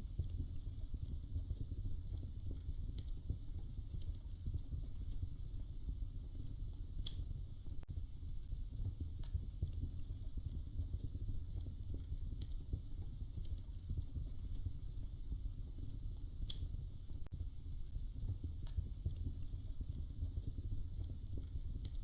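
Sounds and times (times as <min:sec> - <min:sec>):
wood fire pops and snaps: 0:00.0 - 0:07.9, 0:08.6 - 0:22.0
fire low rumble: 0:00.0 - 0:22.0.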